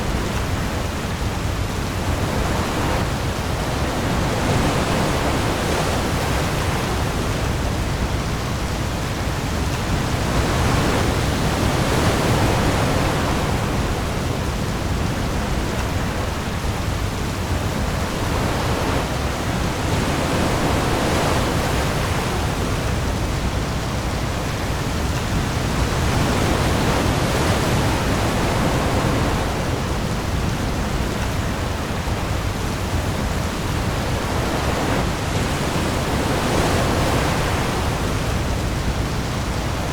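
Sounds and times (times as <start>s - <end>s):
heavy rain on the sea: 0.0s - 39.9s
waves rumbling: 0.0s - 39.9s.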